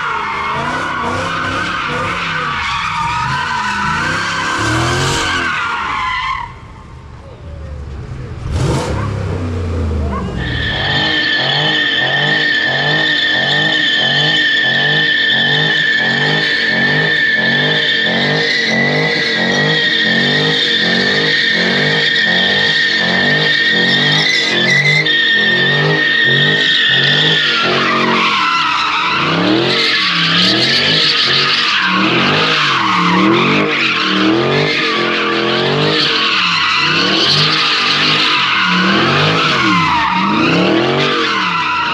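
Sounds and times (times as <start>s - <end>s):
tyres squealing: 0.0s - 6.7s, 10.0s - 41.9s
car engine revving: 0.0s - 41.9s.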